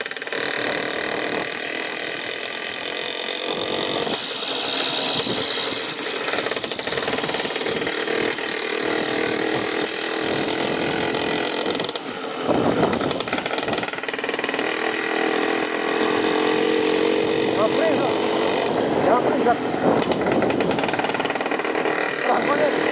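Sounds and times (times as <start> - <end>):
small engine clattering: 0.0 - 22.9.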